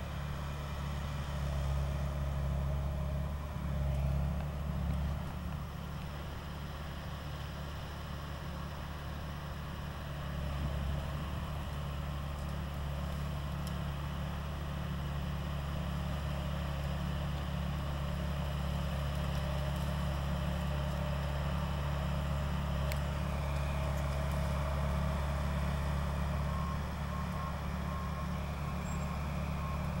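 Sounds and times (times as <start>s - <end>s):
dozer engine running: 0.0s - 30.0s.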